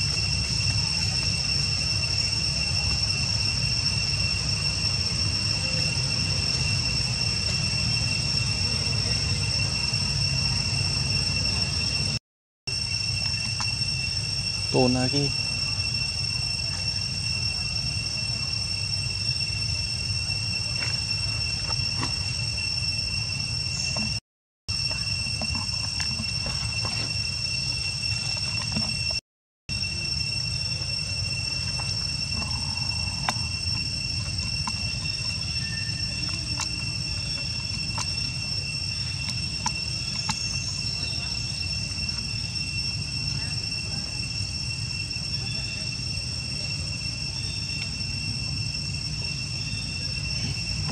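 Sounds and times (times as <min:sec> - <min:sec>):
forest insects droning: 0:00.0 - 0:50.9.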